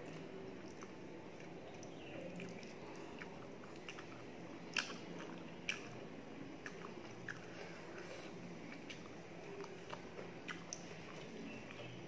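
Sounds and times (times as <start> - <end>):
wet chewing and mouth smacks: 0.0 - 12.0.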